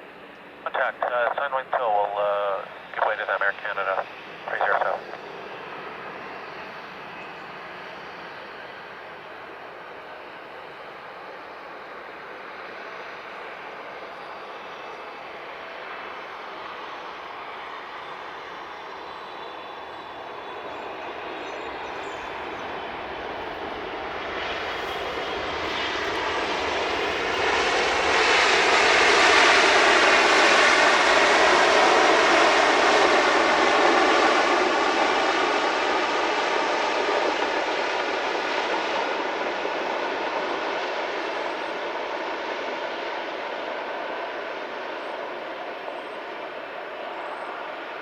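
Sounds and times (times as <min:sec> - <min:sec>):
jet airliner passing: 0:00.0 - 0:48.0.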